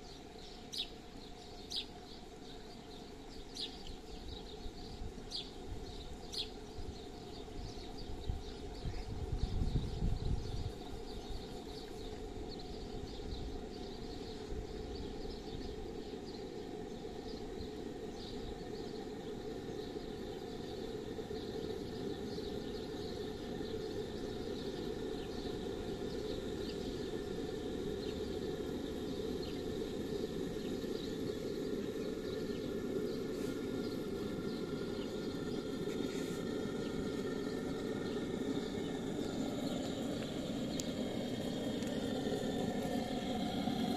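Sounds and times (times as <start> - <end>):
model steam boat engine running: 2.0 - 43.9.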